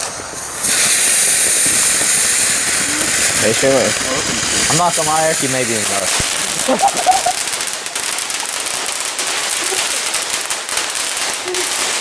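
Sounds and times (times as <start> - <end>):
firework fountain hissing and crackling: 0.0 - 12.0.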